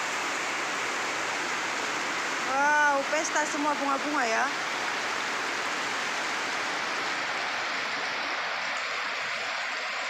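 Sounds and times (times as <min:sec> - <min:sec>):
rain falling steadily: 0:00.0 - 0:10.0.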